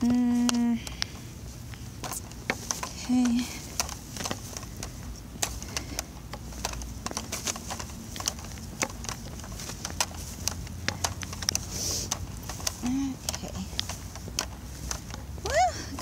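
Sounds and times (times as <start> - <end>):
light clicks and taps: 0.0 - 15.3
footsteps: 0.0 - 16.0.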